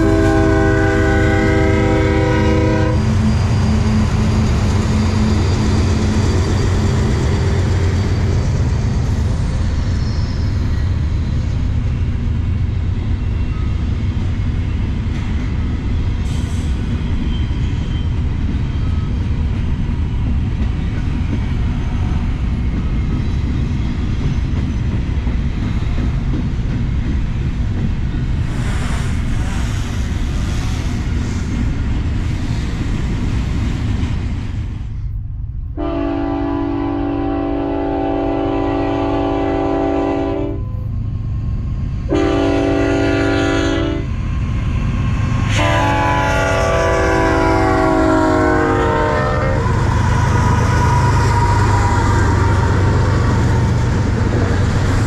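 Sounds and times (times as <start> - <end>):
freight train rumbling on rails: 0.0 - 55.0.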